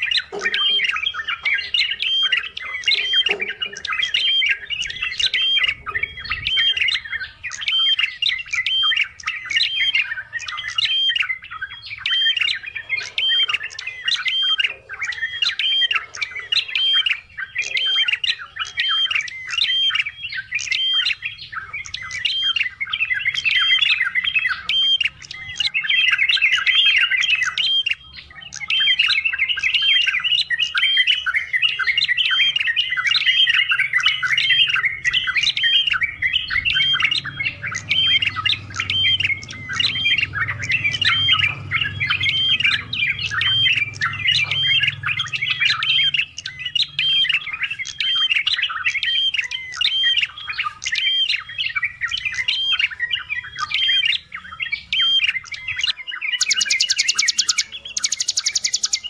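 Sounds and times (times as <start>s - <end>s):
bulbul singing: 0.0s - 59.0s.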